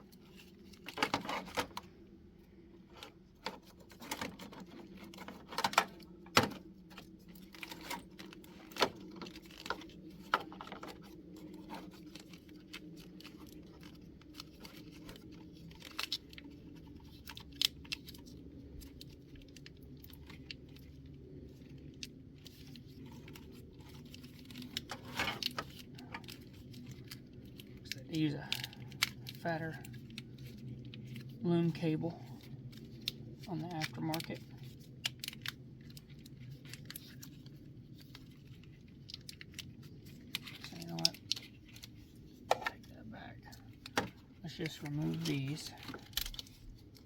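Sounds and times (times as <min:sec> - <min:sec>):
faint low hum: 0:00.0 - 0:47.0.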